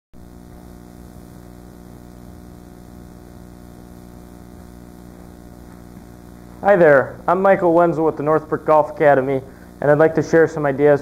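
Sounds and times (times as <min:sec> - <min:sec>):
buzzy mains hum: 0:00.2 - 0:11.0.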